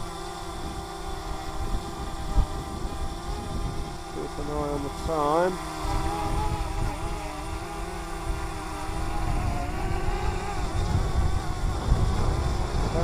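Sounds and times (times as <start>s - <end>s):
drone propellers humming: 0.0s - 13.0s
wind buffeting microphone: 0.0s - 13.0s.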